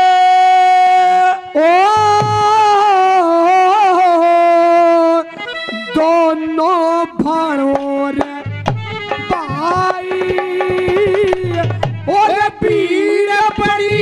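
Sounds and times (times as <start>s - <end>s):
folk music melody: 0.0s - 14.0s.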